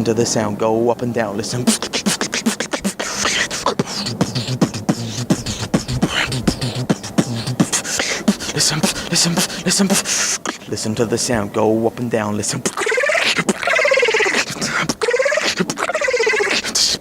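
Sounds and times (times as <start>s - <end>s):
beatboxed sliding bass tones: 1.4s - 10.6s, 12.5s - 17.0s
beatboxing clicks and snares: 1.4s - 10.8s, 12.4s - 17.0s.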